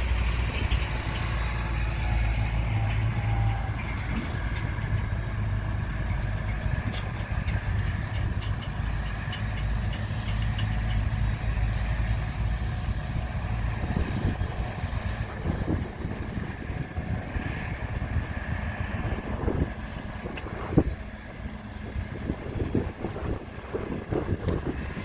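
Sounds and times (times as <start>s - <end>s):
constant high whine: 0.0s - 25.0s
diesel engines rumbling: 0.0s - 25.0s.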